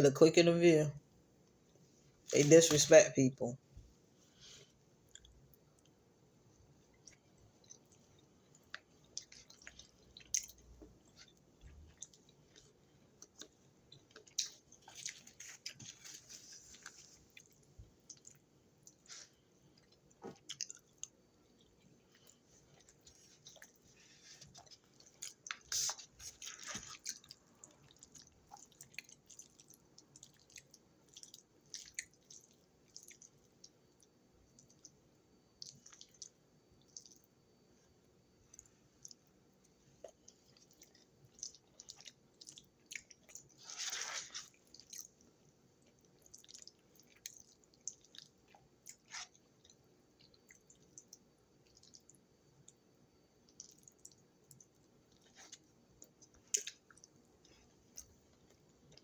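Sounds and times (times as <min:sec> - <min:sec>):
person chewing food: 0:04.3 - 0:59.0.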